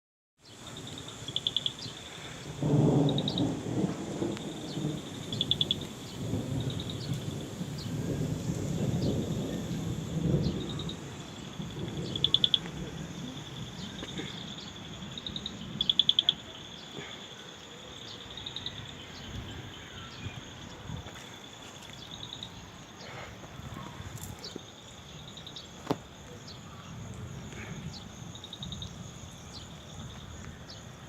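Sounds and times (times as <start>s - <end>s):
insect chirps and trills: 0.4s - 31.0s
insects high-pitched drone: 0.4s - 31.0s.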